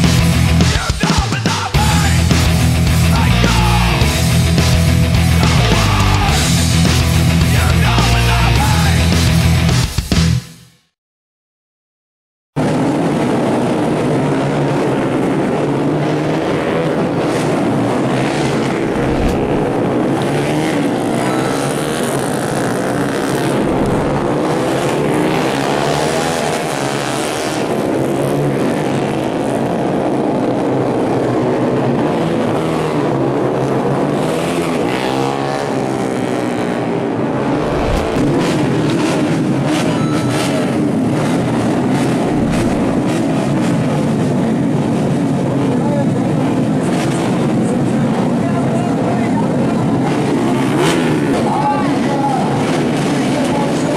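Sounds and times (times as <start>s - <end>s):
race motorcycles revving: 0.0s - 10.3s, 12.6s - 53.9s.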